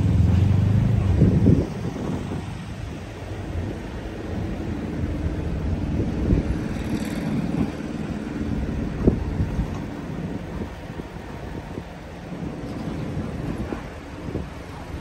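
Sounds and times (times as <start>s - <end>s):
car engine and road rumble: 0.0s - 15.0s
wind noise on microphone: 0.0s - 15.0s.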